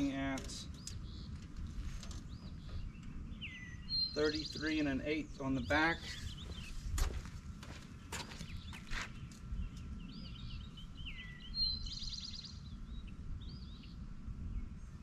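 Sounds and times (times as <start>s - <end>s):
low outdoor rumble: 0.0s - 15.0s
songbirds chirping and trilling: 0.0s - 15.0s.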